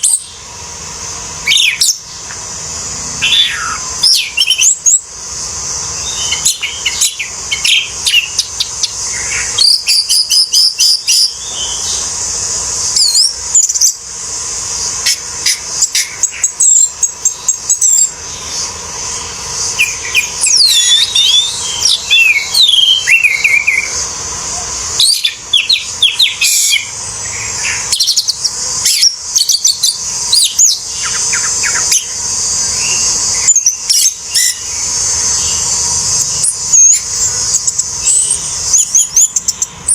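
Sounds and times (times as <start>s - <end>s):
steady high-pitched hiss: 0.0s - 39.9s
thrush singing whistles and trills: 0.0s - 39.9s.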